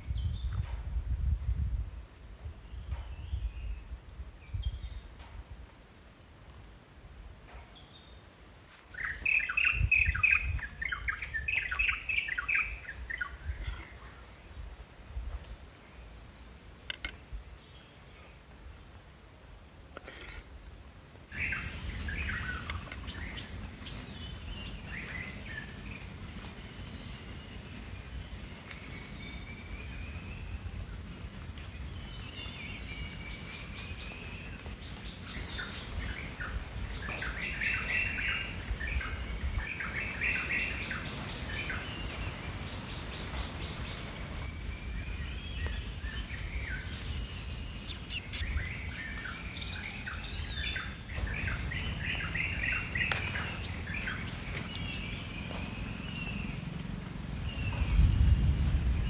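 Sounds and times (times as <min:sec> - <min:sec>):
small birds chirping: 0:07.7 - 0:16.6, 0:20.0 - 0:59.0.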